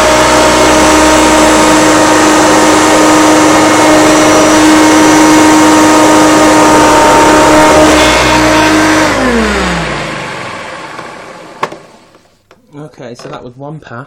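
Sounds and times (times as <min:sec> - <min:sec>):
vacuum cleaner whine: 0:00.0 - 0:12.2.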